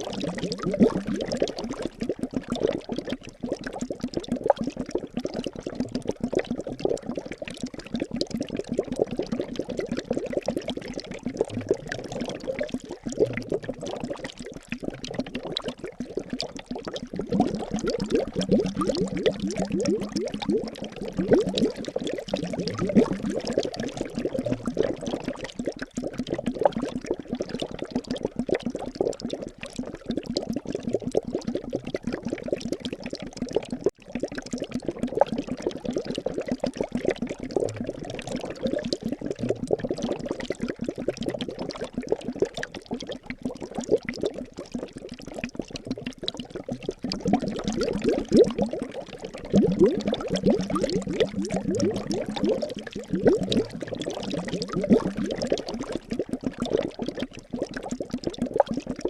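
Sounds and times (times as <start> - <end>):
liquid bubbling: 0.0 - 59.0.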